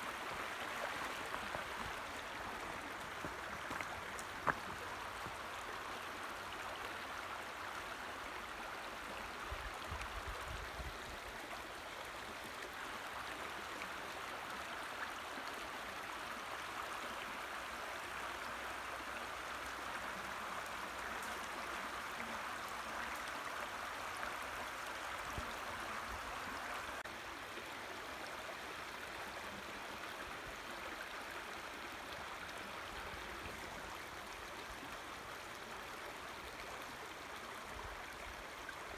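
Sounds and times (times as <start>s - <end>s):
creek running over rocks: 0.0s - 38.9s.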